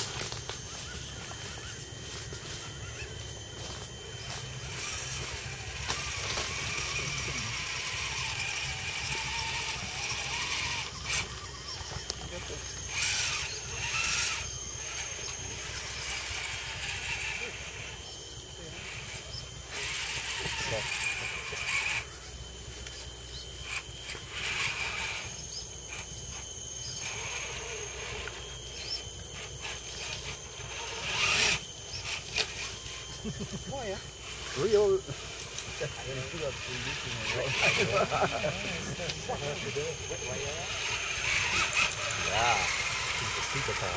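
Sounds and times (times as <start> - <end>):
electric motors whining: 0.0 - 43.9
insects droning: 0.0 - 43.9.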